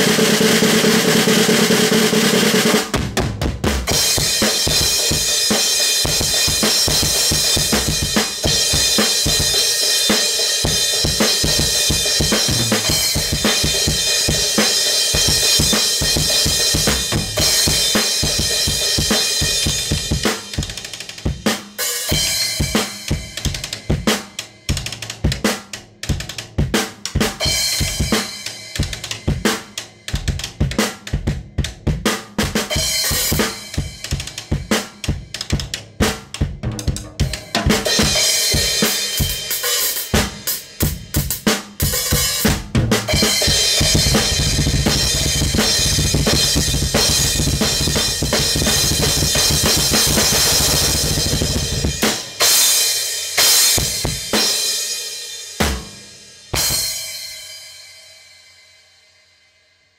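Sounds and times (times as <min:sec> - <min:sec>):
drums played fast: 0:00.0 - 0:58.0.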